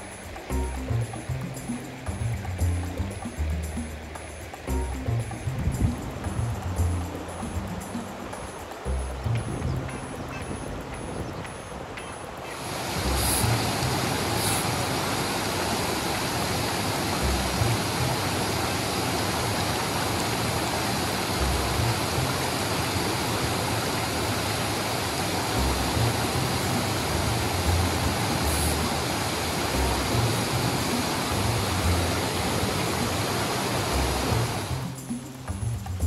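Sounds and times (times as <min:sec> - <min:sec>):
river water rushing over weir: 0:00.0 - 0:36.0.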